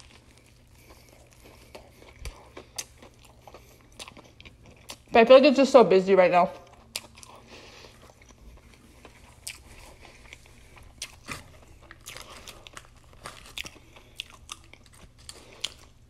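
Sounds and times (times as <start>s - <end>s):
person chewing with crunches: 0.0s - 5.2s, 6.6s - 16.0s.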